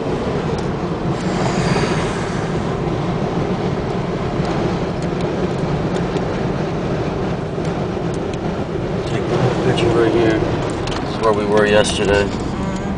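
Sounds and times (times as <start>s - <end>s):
vehicle running low rumble: 0.0s - 12.9s.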